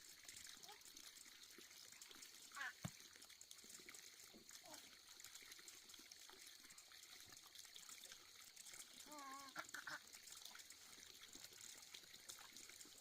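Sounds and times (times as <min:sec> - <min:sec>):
faint trickle of water: 0:00.0 - 0:13.0.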